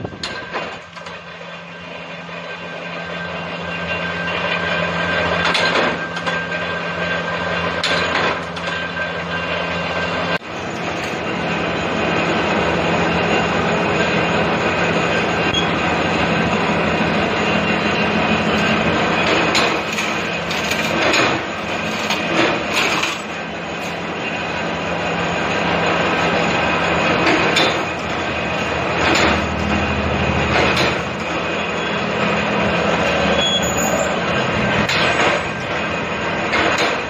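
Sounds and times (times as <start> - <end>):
workshop machinery humming and clattering: 0.0 - 37.0.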